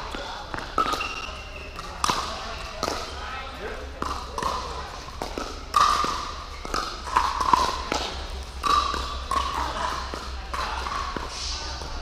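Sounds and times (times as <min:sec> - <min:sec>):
paddles tapping plastic ball: 0:00.1 - 0:03.2, 0:03.9 - 0:11.3.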